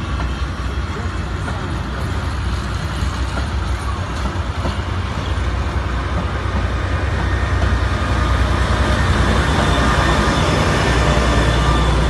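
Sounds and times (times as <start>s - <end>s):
diesel locomotive passing: 0.0s - 12.0s
train wheels rumbling on rails: 0.0s - 12.0s.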